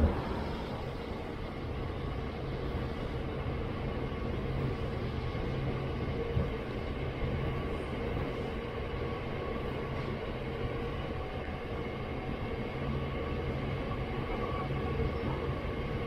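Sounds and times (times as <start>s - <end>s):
freight train rumbling on rails: 0.0s - 16.0s.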